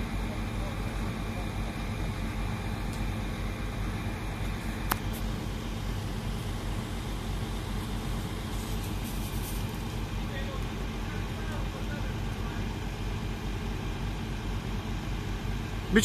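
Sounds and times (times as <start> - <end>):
heavy diesel engines running: 0.0 - 16.0.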